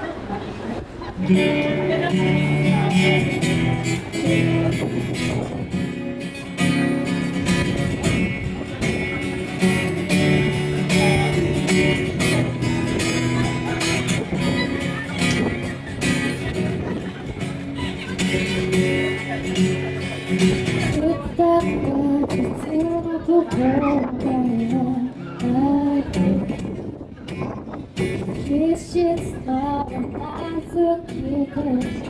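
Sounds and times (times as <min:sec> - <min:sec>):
acoustic guitar strumming: 0:01.2 - 0:32.0.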